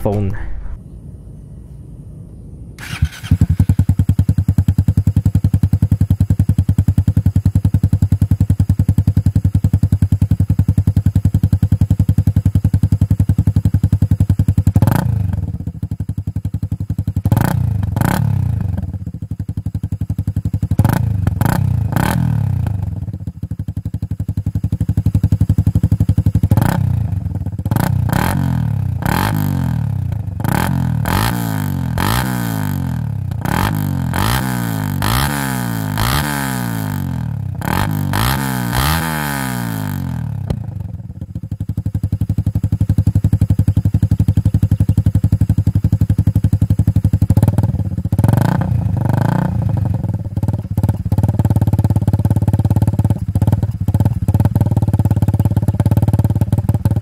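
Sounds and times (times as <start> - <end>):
motorcycle engine idling: 2.8 - 57.0
motorcycle engine revving: 2.8 - 57.0.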